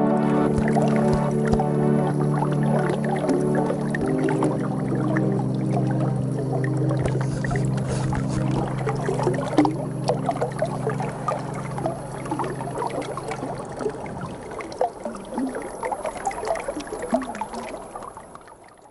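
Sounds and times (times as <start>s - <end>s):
steady low hum: 0.0s - 17.5s
river water babbling over gravel: 0.4s - 18.9s.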